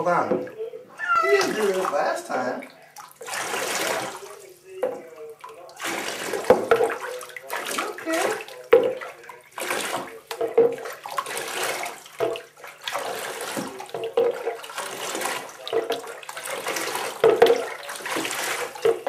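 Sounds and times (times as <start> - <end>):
water splashing in bathtub: 0.0 - 19.0
water poured from plastic jug: 1.3 - 4.5, 5.4 - 19.0.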